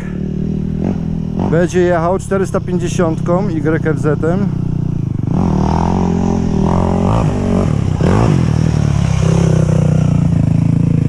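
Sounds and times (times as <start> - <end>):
quad engine revving: 0.0 - 11.0.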